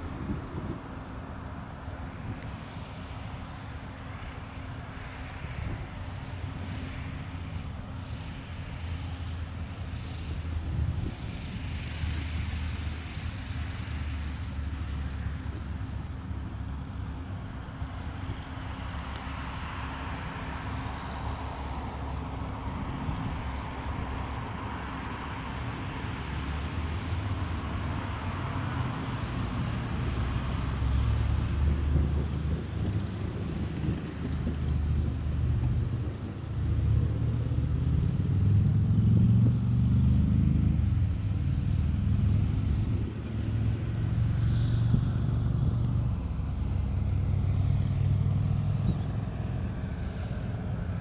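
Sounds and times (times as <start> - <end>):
propeller plane engine: 0.0 - 51.0.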